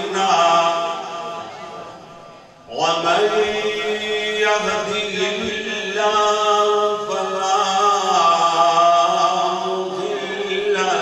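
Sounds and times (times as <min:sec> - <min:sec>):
man chanting into a microphone: 0:00.0 - 0:01.6, 0:02.7 - 0:11.0.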